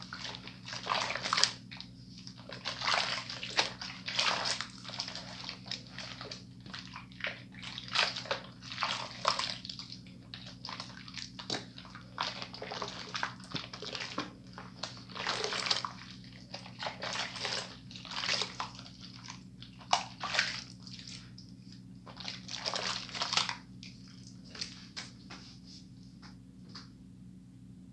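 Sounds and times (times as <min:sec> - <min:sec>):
hands sloshing in soapy water: 0:00.0 - 0:25.8.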